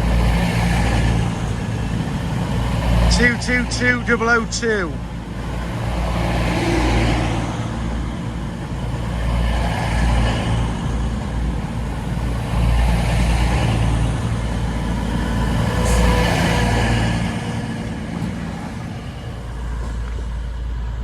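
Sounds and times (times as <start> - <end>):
diesel train droning past: 0.0 - 21.0.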